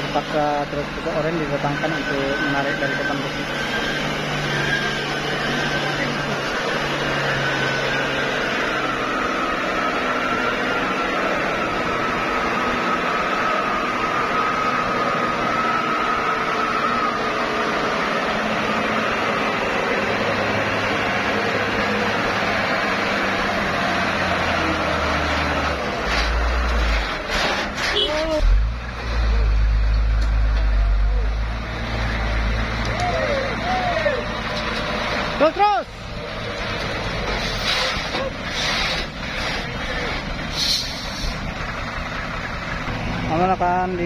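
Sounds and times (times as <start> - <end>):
diesel truck engines running: 0.0 - 44.0.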